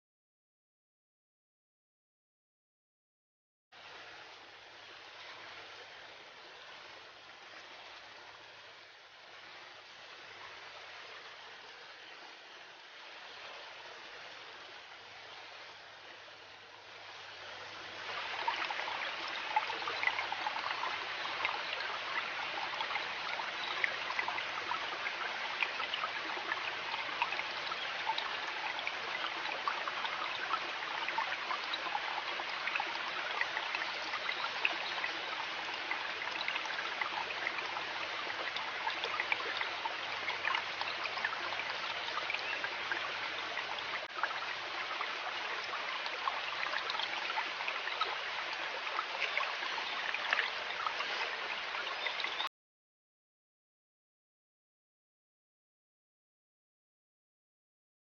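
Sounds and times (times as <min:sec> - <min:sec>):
river water babbling over stones: 0:03.8 - 0:52.5.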